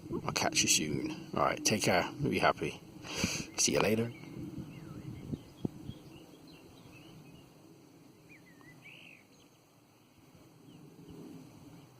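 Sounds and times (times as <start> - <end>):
low background noise: 0.0 - 11.9
small birds chirping: 0.7 - 11.9.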